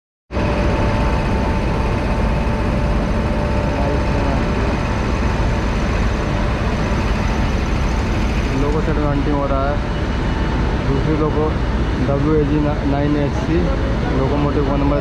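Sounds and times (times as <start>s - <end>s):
high whine: 0.3s - 15.0s
train machinery rumbling: 0.3s - 15.0s.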